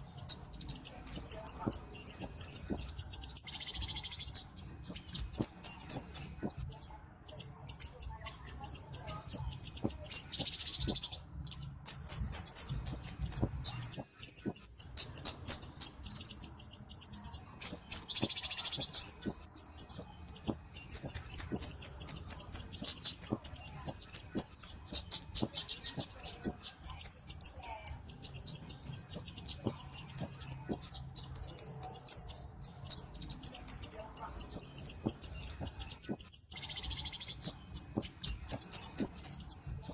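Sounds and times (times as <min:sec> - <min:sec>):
bird calling in high ticking notes: 0:00.0 - 0:39.9.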